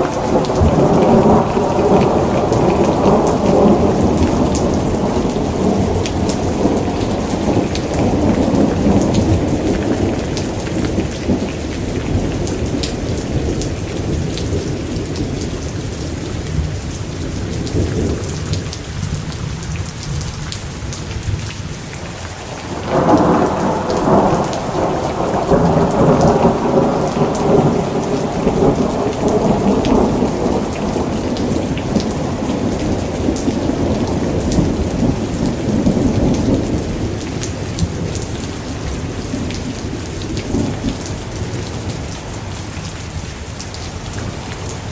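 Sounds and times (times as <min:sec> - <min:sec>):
rolling thunder: 0:00.0 - 0:19.4, 0:22.6 - 0:42.2
steady rain: 0:00.0 - 0:44.9.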